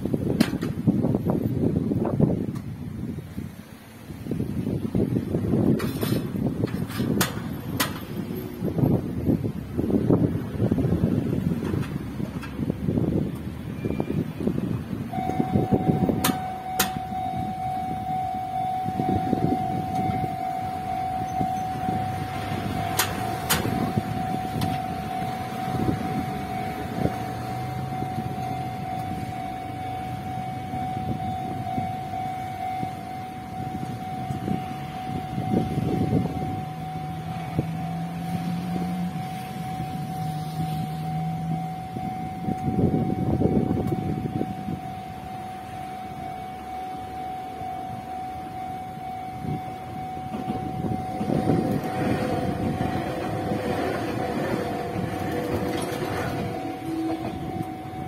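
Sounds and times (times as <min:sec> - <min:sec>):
passing road traffic: 0:00.0 - 0:58.0
wind: 0:00.0 - 0:58.0
level crossing warning alarm: 0:03.2 - 0:58.0.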